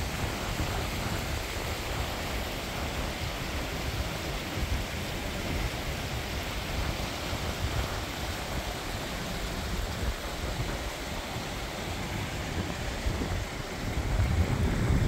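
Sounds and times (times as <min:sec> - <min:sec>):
stream rushing over rocks: 0:00.0 - 0:15.0
wind rumble on microphone: 0:00.0 - 0:15.0.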